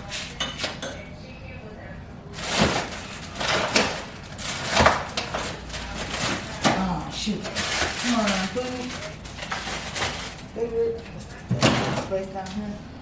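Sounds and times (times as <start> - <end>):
packages rustling and scraping: 0.0 - 0.8, 2.4 - 12.1.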